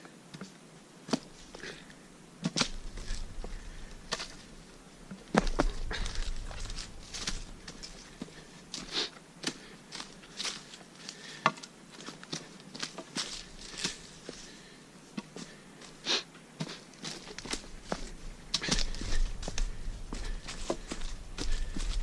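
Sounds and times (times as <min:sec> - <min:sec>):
footsteps on forest trail: 0:00.4 - 0:22.0.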